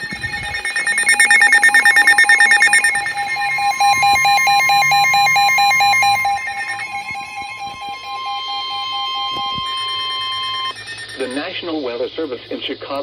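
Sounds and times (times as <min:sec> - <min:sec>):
fast electronic beeping: 0:00.0 - 0:11.4
steady high tone: 0:00.0 - 0:11.5.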